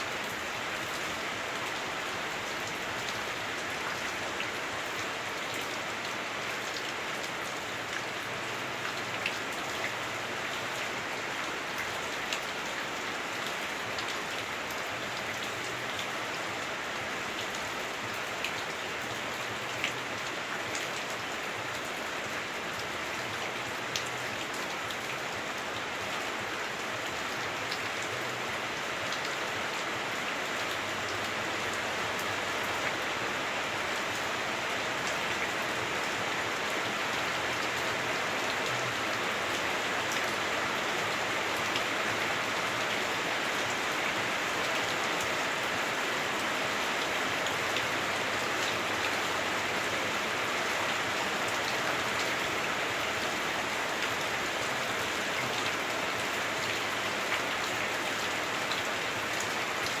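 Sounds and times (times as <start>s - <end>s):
heavy rain on a roof: 0.0s - 60.0s.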